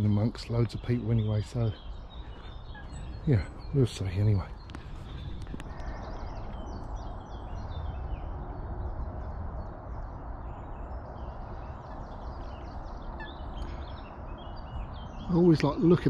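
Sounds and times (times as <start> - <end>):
songbirds chirping and trilling: 0.0 - 16.0
wind rumble on microphone: 0.0 - 16.0.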